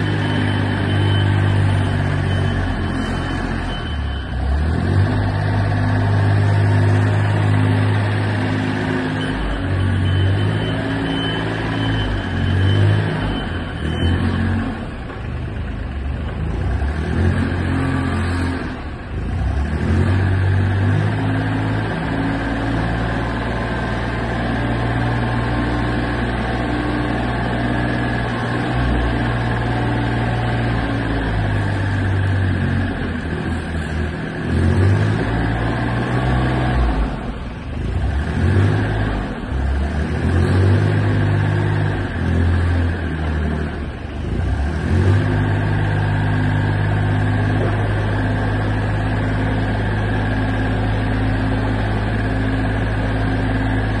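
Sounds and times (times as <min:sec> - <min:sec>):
dumper engine running: 0:00.0 - 0:54.0.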